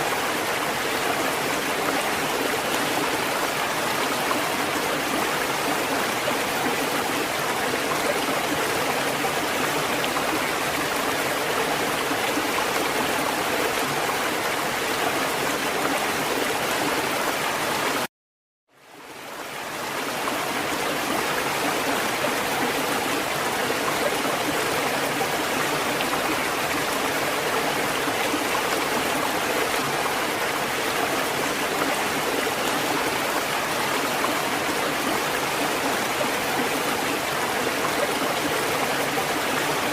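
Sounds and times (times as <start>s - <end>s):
rushing water: 0.0s - 18.1s, 18.7s - 39.9s.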